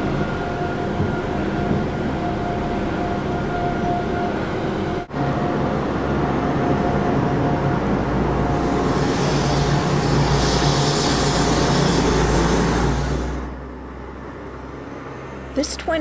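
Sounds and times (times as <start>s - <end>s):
car traffic: 0.0s - 16.0s.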